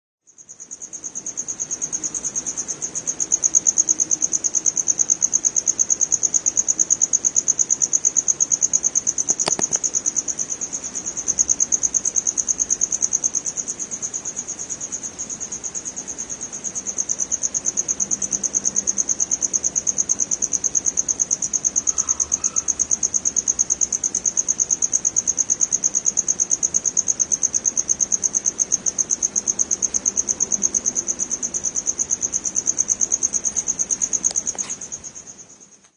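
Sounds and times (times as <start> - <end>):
crickets chirping: 0.2 - 35.9.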